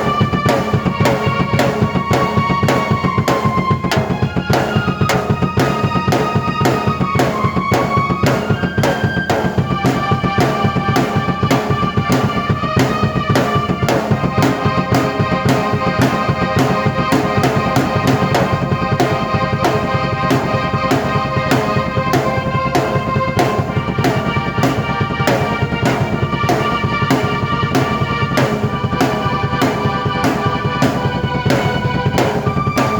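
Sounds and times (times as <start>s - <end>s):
drum kit fast beat: 0.0s - 32.9s
keyboard sustained chords: 0.0s - 32.9s.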